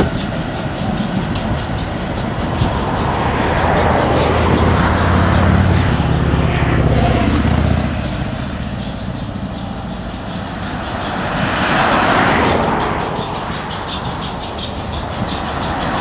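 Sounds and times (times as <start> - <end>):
freight train rolling: 0.0 - 16.0
low engine drone: 0.0 - 16.0
vehicle rushing past: 1.7 - 16.0.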